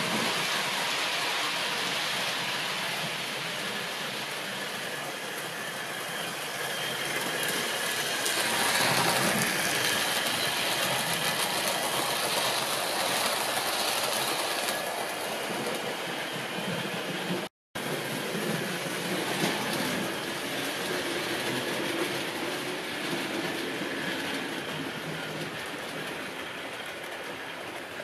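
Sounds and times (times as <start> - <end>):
wheels rumbling on track: 0.0 - 28.0.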